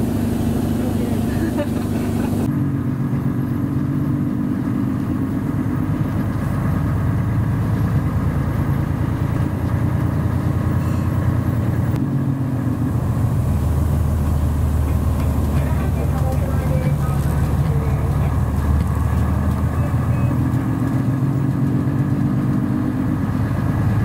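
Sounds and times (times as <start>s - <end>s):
bus diesel engine running: 0.0s - 24.0s
deep low hum: 0.0s - 24.0s.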